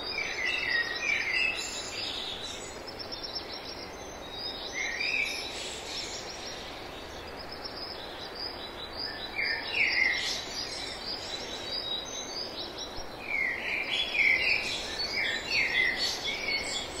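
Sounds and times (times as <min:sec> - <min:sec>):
outdoor background hiss: 0:00.0 - 0:17.0
birds chirping and singing: 0:00.1 - 0:17.0.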